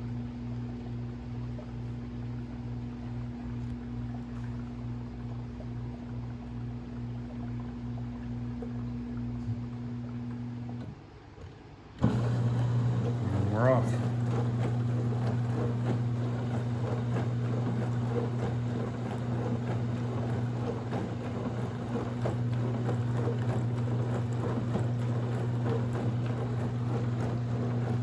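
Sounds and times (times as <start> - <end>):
dishwasher motor hum: 0.0 - 28.0.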